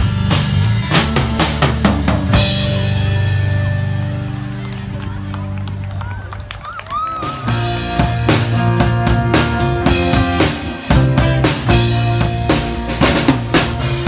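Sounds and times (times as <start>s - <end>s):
band music with drum kit: 0.0s - 5.9s, 6.8s - 14.0s.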